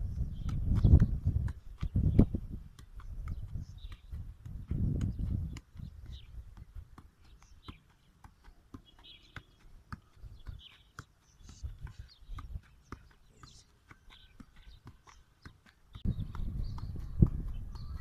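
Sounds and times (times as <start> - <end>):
football thudding on foot: 0.3 - 17.9.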